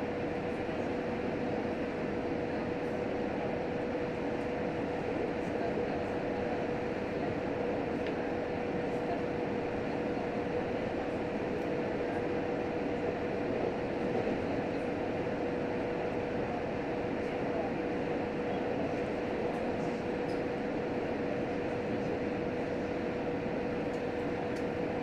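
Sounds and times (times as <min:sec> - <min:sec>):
railcar wheel and drive noise: 0:00.0 - 0:25.0.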